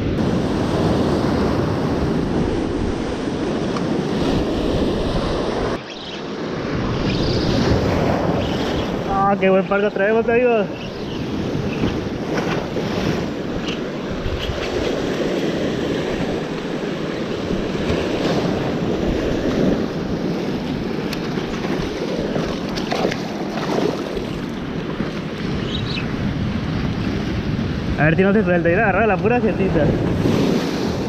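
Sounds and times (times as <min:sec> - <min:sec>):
surf washing over rocks: 0:00.0 - 0:31.0
wind buffeting microphone: 0:00.0 - 0:31.0.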